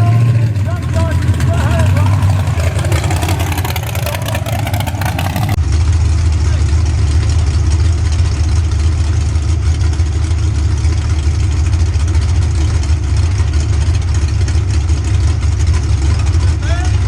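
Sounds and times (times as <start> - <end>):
truck engine idling loudly: 0.0 - 17.0.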